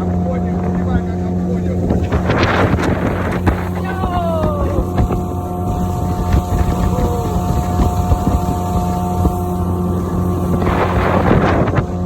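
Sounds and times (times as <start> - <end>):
outboard motor running: 0.0 - 12.0
rushing water: 0.0 - 12.0
wind noise: 1.7 - 12.0.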